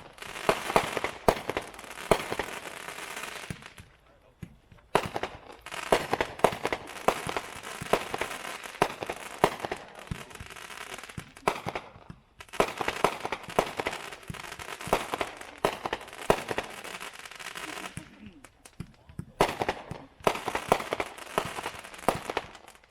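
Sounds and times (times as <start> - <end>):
fireworks reports and crackling: 0.0 - 22.9.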